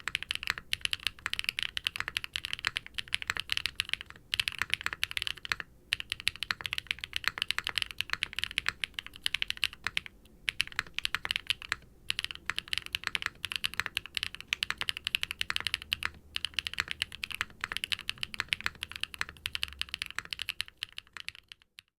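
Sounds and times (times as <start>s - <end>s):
fast typing on mechanical keyboard: 0.0s - 21.9s.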